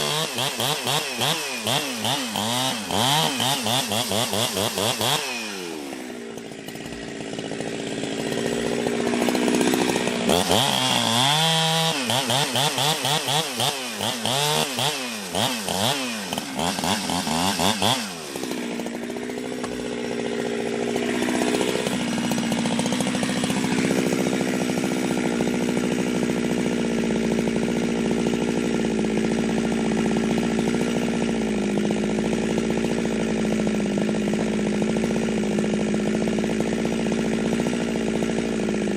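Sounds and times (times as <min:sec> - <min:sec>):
chainsaw revving and idling: 0:00.0 - 0:38.9.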